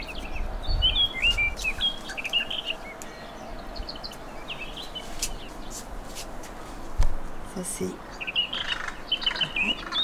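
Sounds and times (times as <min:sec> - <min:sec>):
small birds chirping: 0:00.0 - 0:10.0
steady outdoor background: 0:00.0 - 0:10.0.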